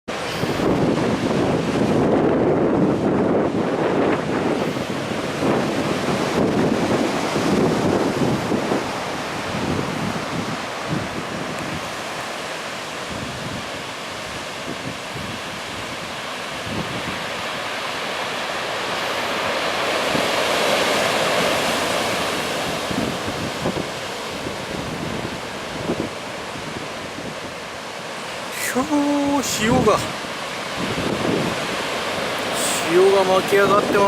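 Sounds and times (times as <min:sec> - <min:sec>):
wind buffeting microphone: 0:00.1 - 0:17.8, 0:19.0 - 0:34.0
storm surf crashing: 0:00.1 - 0:34.0.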